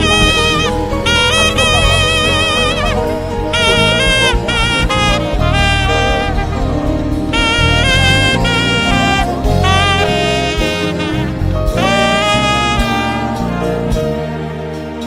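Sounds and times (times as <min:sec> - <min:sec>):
bass line: 0:00.0 - 0:15.0
saxophone melody: 0:00.0 - 0:15.0.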